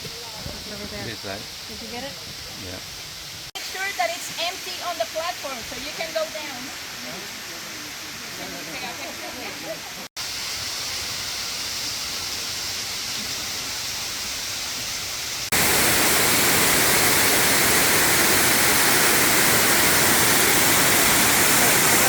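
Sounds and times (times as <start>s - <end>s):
waterfall rushing: 0.3s - 22.0s.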